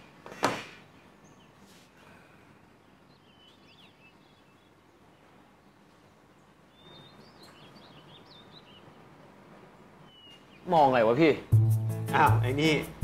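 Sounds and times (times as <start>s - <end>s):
faint birds chirping: 0.0s - 11.6s.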